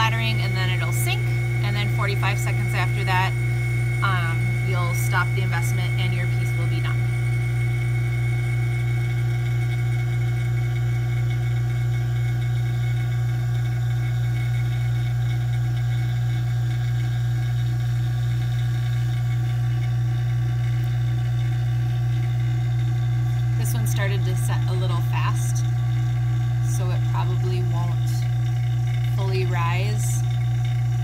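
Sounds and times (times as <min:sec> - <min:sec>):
vacuum machine humming: 0:00.0 - 0:31.0.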